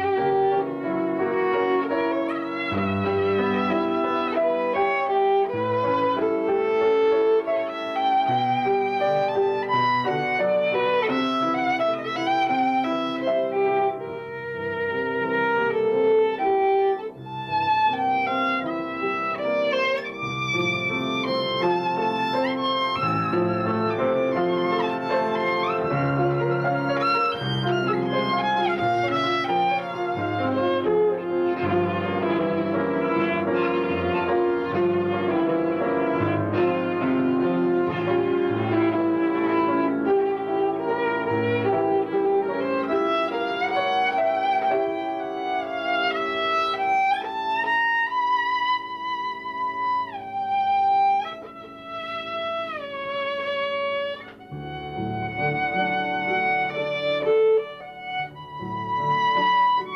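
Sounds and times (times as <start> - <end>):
violin melody: 0.0 - 59.9.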